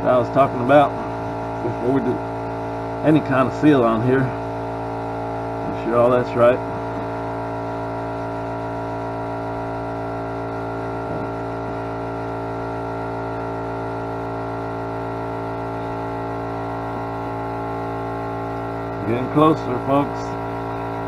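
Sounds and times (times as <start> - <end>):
air compressor humming: 0.0 - 21.0.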